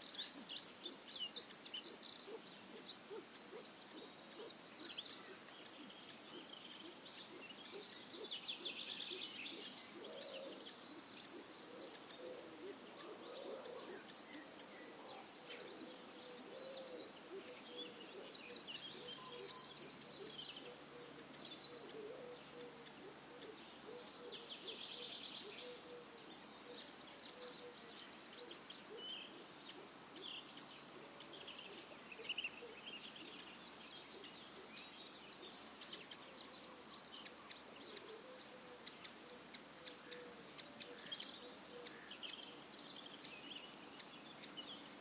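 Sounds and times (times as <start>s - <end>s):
faint background hiss: 0.0s - 45.0s
small birds chirping: 0.0s - 45.0s.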